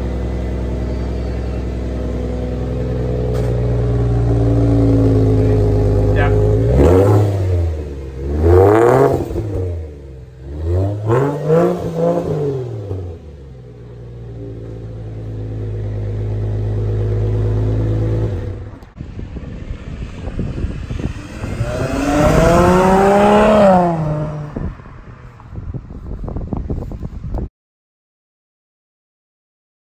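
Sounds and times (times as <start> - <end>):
car engine revving and idling: 0.0 - 26.2.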